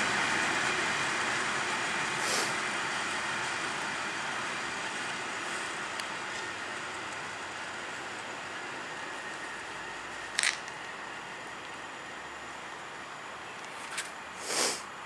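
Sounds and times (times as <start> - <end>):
train rumbling: 0.0 - 13.5.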